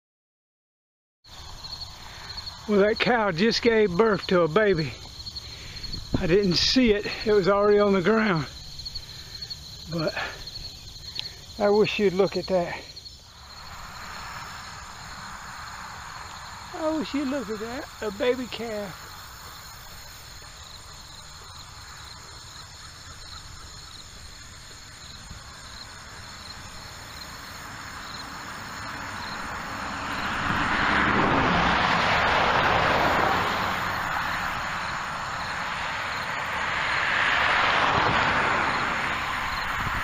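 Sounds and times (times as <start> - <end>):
tyre hiss of passing vehicle: 1.3 - 2.8, 4.7 - 40.0
faint insect tones: 1.3 - 31.1, 32.4 - 40.0.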